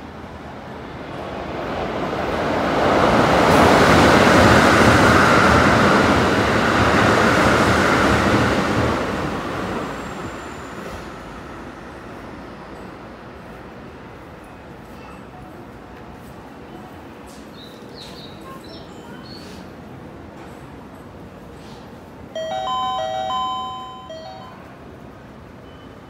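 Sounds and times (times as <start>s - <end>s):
train passing: 0.0s - 14.9s, 15.5s - 26.0s.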